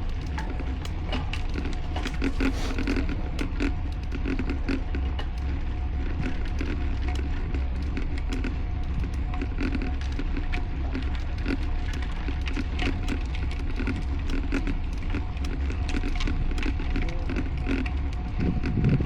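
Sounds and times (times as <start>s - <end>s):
crackling and clicking: 0.0s - 19.0s
wind rumbling on microphone: 0.0s - 19.0s.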